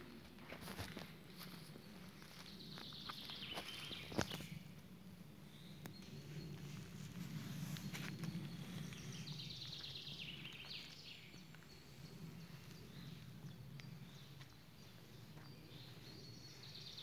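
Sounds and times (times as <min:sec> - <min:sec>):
forest ambience: 0:00.0 - 0:17.0.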